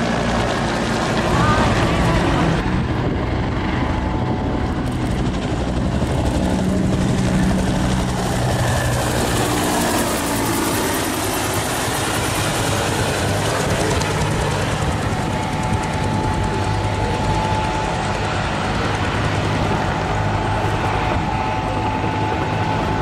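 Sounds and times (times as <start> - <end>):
helicopter rotor beat: 0.0 - 23.0
turbine engine noise: 0.0 - 23.0.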